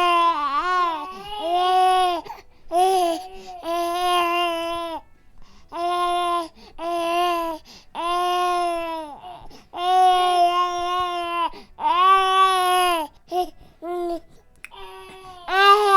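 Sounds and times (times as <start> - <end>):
infant crying: 0.0 - 5.0, 5.7 - 15.9.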